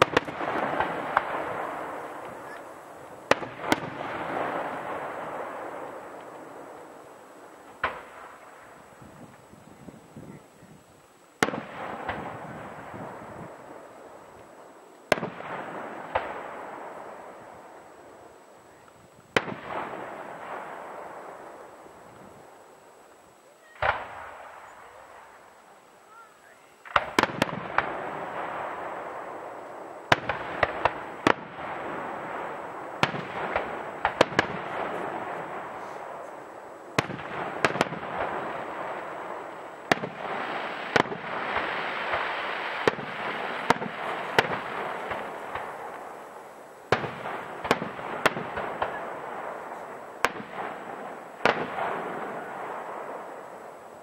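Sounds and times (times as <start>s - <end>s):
firework bangs and bursts: 0.0s - 10.4s, 11.4s - 22.9s, 23.6s - 25.5s, 26.6s - 54.0s
continuous noisy hiss: 0.0s - 54.0s.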